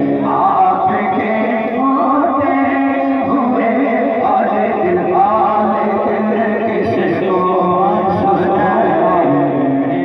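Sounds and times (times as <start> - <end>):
man singing devotional song: 0.0 - 10.0.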